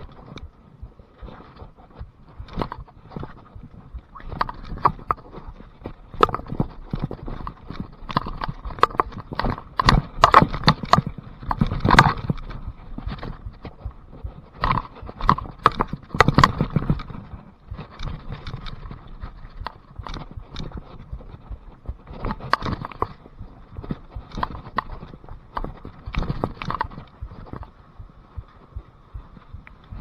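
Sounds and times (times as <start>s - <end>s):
mountain bike knocks and rattles: 2.0s - 27.8s.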